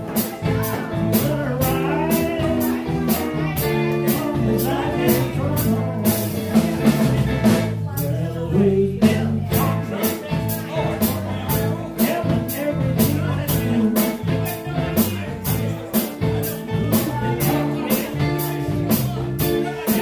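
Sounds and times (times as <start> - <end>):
live blues band playing: 0.0 - 20.0.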